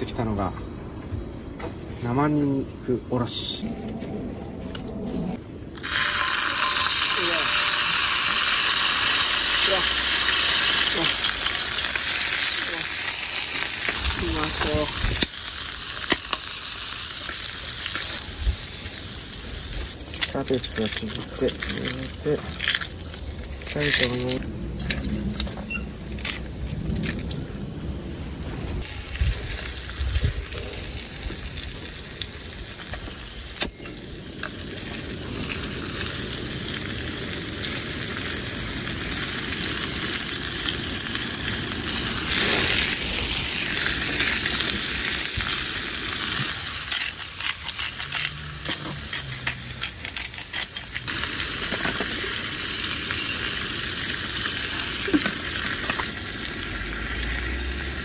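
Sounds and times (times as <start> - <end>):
food sizzling in a skillet: 5.7 - 24.4, 28.8 - 49.8, 50.4 - 58.0.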